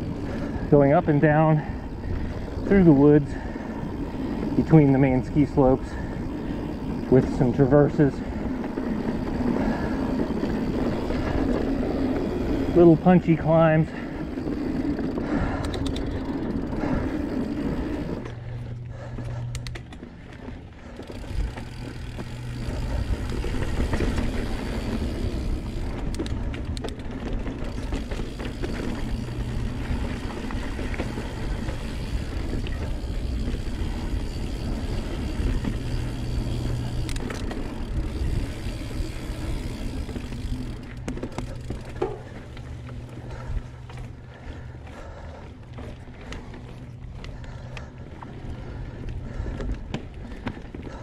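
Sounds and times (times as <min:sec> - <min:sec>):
tyres rolling over dirt: 0:00.0 - 0:47.7
bike knocking and rattling: 0:00.0 - 0:51.0.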